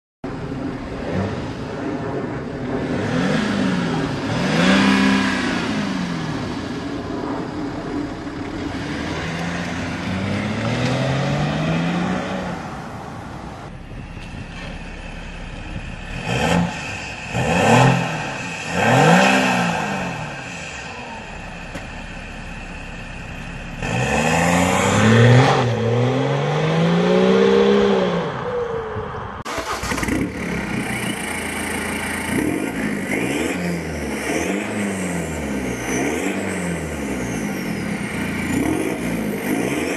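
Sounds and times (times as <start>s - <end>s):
diesel car engine revving: 0.3s - 28.7s, 29.4s - 39.9s.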